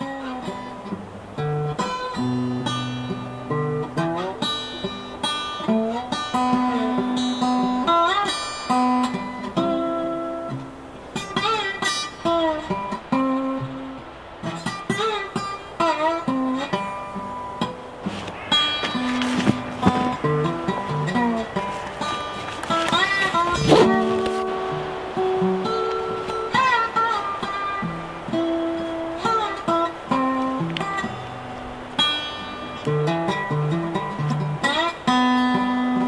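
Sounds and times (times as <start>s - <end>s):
acoustic guitar picking melody: 0.0s - 36.0s.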